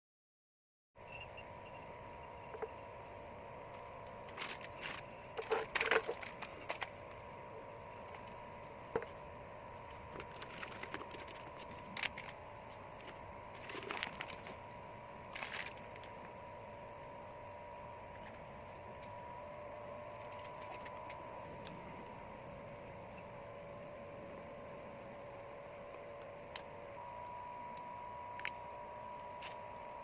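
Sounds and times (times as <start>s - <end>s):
faint hum: 1.0s - 30.0s.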